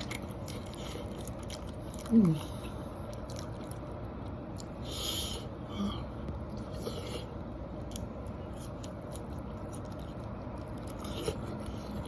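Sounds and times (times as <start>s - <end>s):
soft chewing and mouth smacks: 0.0s - 5.1s, 6.2s - 12.0s.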